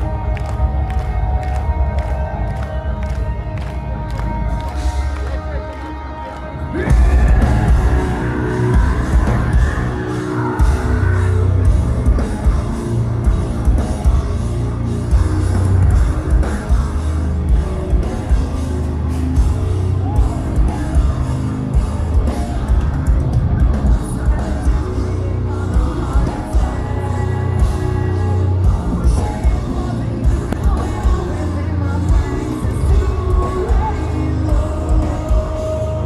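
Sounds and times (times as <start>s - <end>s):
metal band playing live: 0.0s - 36.0s.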